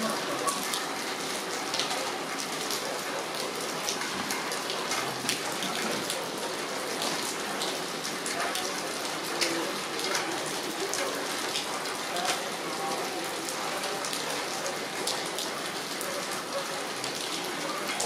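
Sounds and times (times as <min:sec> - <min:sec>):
raindrops ticking on surfaces: 0:00.0 - 0:18.0.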